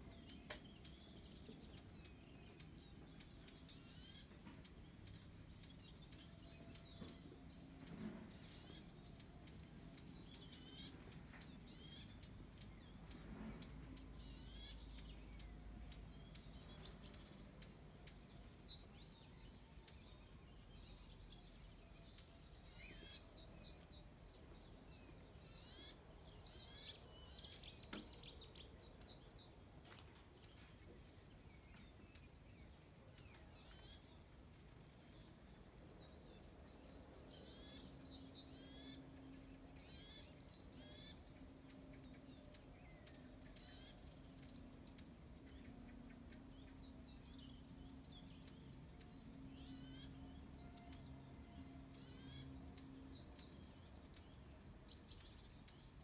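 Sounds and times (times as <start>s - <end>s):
low steady background hum: 0.0s - 56.0s
small songbirds chirping: 0.0s - 56.0s.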